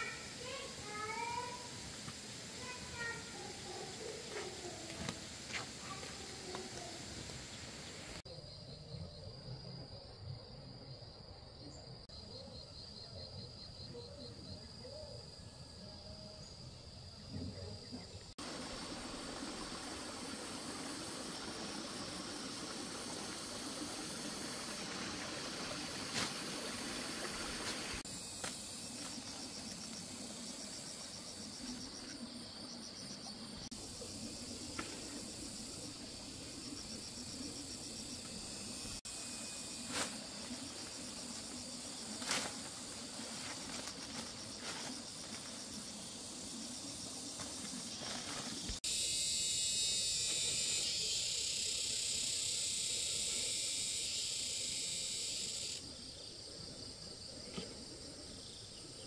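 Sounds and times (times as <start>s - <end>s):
outdoor hiss: 0.0s - 8.2s, 18.4s - 59.0s
insects trilling: 0.0s - 59.0s.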